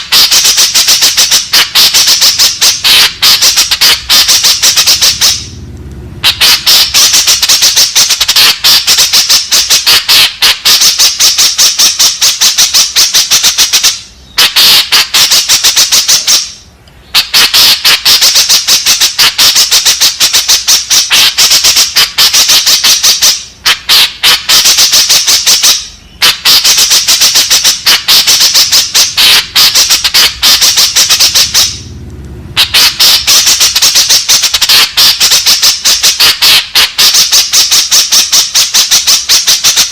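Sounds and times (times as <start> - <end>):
bird harsh chattering calls: 0.0 - 5.6, 6.2 - 31.9, 32.6 - 39.9.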